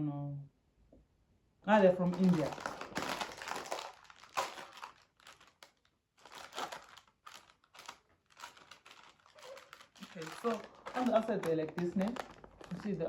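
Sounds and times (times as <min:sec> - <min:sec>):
plastic snack packet crinkling: 0:02.0 - 0:13.0.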